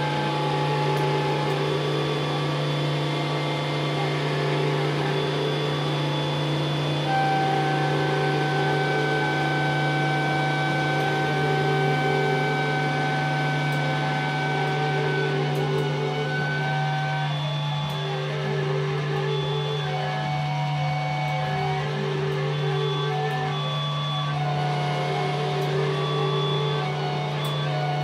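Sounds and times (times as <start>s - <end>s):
steady low hum: 0.0s - 28.0s
sustained drone tones: 0.0s - 28.0s.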